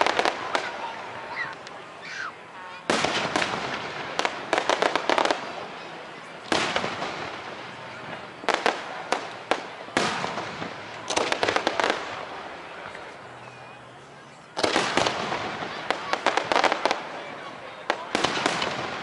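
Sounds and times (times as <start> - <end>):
fireworks bursting and crackling: 0.0 - 13.7, 14.4 - 19.0.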